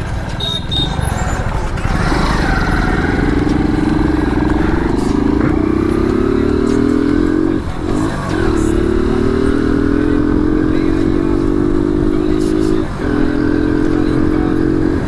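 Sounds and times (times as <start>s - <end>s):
motorcycle engine accelerating: 0.0s - 15.0s
wind and road noise: 0.0s - 15.0s.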